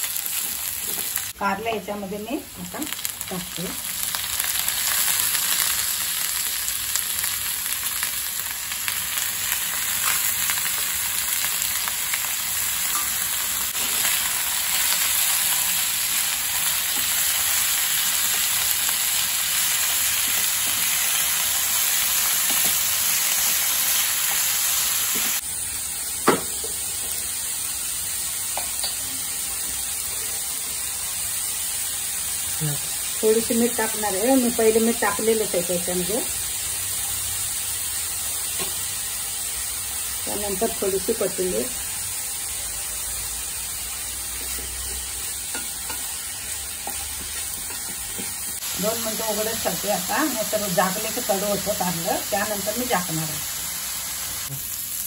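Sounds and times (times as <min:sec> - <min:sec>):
vegetables sizzling in hot oil: 0:00.0 - 0:55.0.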